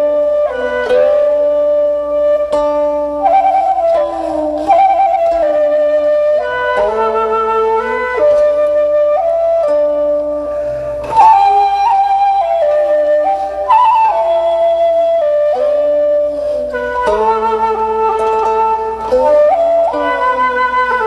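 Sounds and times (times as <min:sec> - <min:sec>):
slow instrumental melody: 0:00.0 - 0:21.0.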